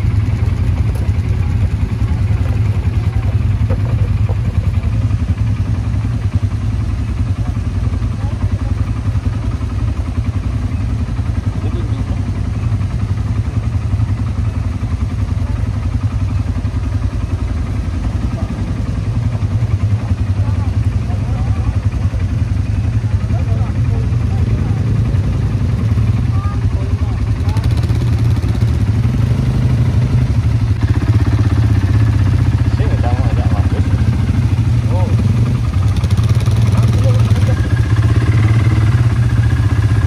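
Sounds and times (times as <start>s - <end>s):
quad bike engine running: 0.0s - 40.0s.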